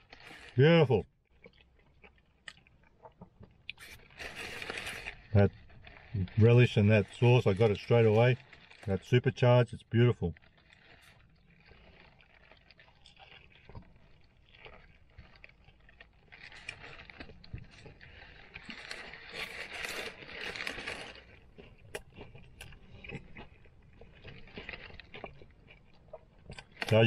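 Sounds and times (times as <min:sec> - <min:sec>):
paper wrapper crinkling: 0:00.0 - 0:00.6, 0:03.7 - 0:25.6, 0:26.5 - 0:27.0
person chewing and biting: 0:00.0 - 0:00.6, 0:01.3 - 0:09.0, 0:10.4 - 0:27.0.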